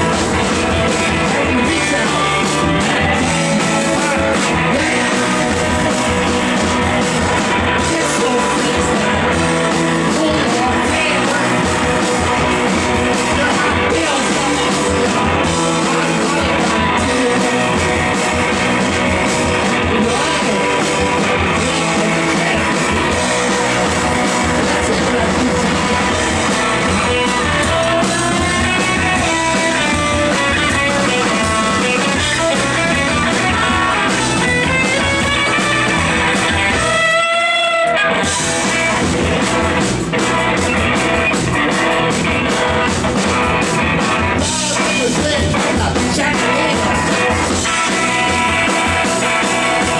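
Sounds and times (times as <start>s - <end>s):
rock band playing live: 0.0s - 49.9s.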